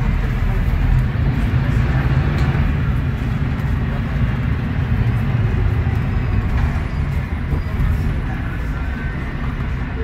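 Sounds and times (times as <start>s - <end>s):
bus diesel engine drone: 0.0s - 10.0s
road noise: 0.0s - 10.0s.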